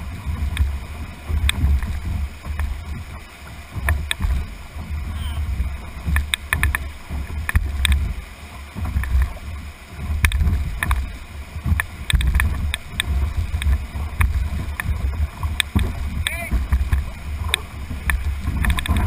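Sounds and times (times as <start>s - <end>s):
water slapping canoe hull: 0.0s - 19.0s
whitewater rushing: 0.0s - 19.0s.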